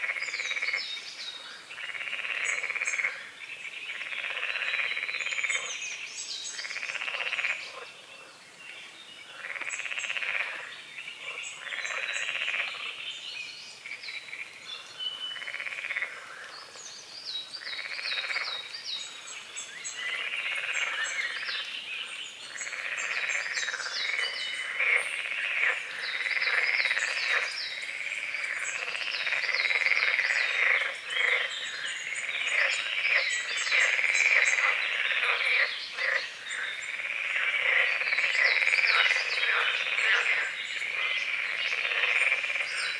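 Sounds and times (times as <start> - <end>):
frogs croaking: 0.0 - 42.9.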